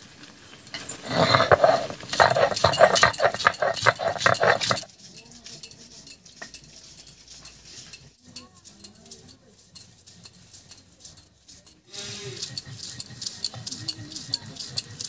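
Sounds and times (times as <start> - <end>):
grinding stone strokes: 0.0 - 15.0.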